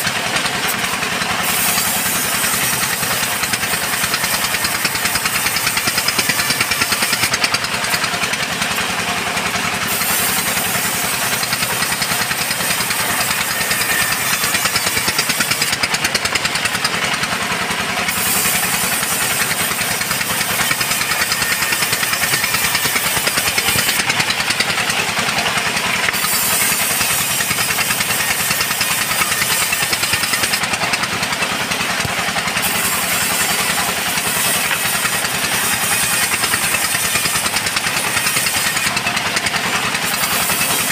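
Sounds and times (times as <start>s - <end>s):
chainsaw cutting through wood: 0.0s - 40.9s.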